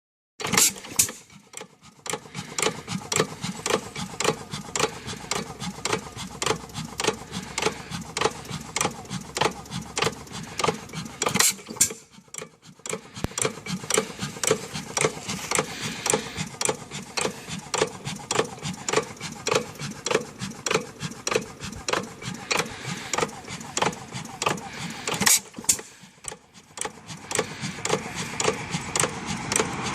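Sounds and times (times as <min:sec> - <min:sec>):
gas engine running: 0:00.4 - 0:29.9
mechanical clatter: 0:00.4 - 0:29.9.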